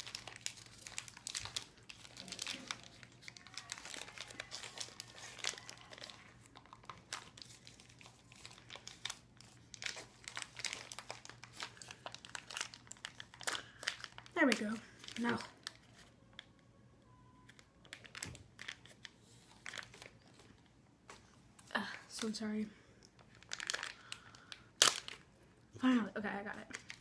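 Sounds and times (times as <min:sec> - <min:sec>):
wrapper crinkling and tearing: 0:00.0 - 0:16.6, 0:17.4 - 0:20.6, 0:23.1 - 0:25.3, 0:26.6 - 0:27.0.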